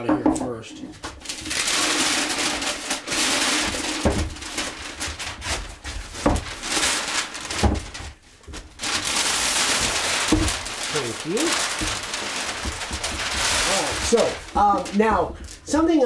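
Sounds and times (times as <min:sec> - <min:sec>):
paper rustling and crinkling: 0:01.0 - 0:16.0.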